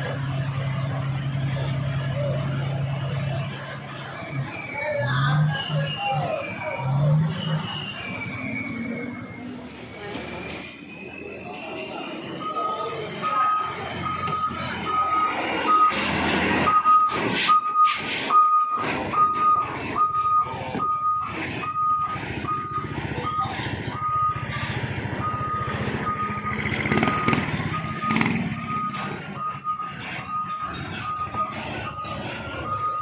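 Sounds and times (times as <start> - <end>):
truck engine running: 0.0 - 33.0
truck warning beeper: 0.4 - 33.0.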